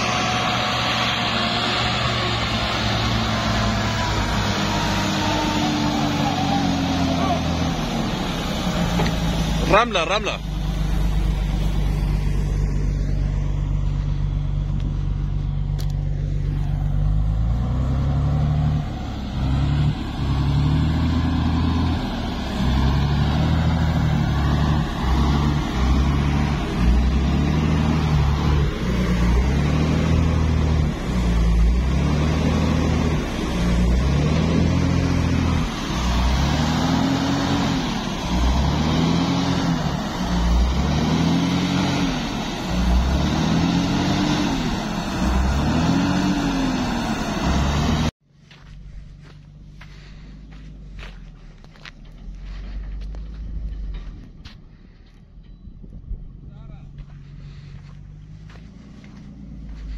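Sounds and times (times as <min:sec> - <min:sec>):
truck engine revving: 0:00.0 - 0:55.3.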